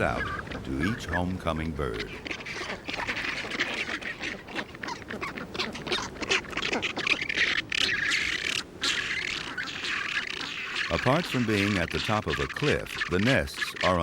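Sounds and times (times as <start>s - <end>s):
penguins calling harshly: 0.0s - 14.0s.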